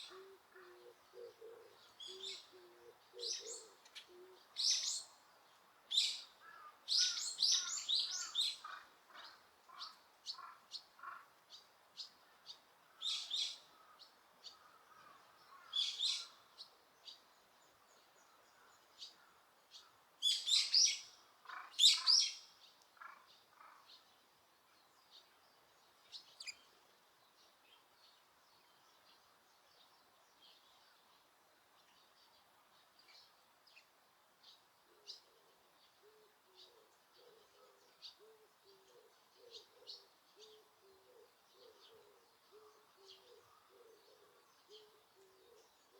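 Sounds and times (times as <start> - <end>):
wild birds chirping: 0.0 - 45.9.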